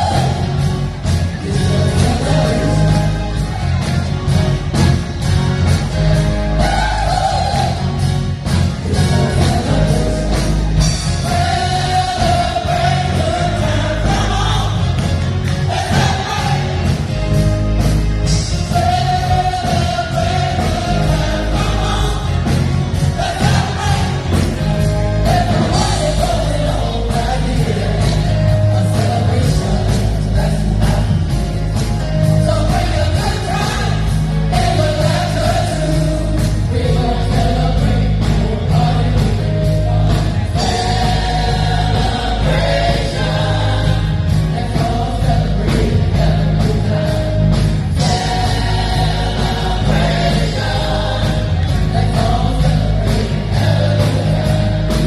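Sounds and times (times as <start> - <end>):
vocal group singing gospel: 0.0 - 3.9, 5.6 - 55.0
bass and drums: 0.0 - 55.0.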